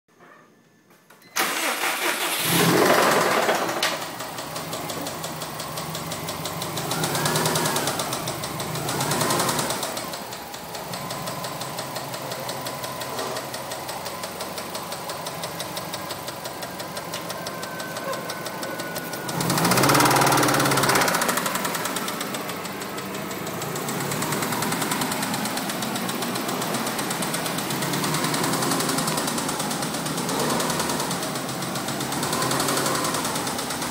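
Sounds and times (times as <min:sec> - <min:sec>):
car engine starting and revving: 0:01.4 - 0:33.9
fast engine knocking: 0:02.5 - 0:33.9.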